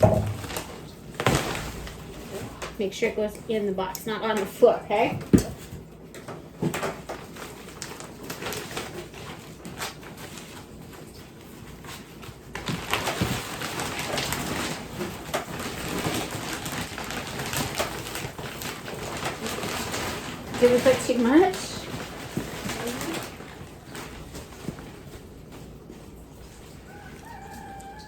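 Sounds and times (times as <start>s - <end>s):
plastic bag crinkling: 0.0s - 3.4s, 6.6s - 28.0s.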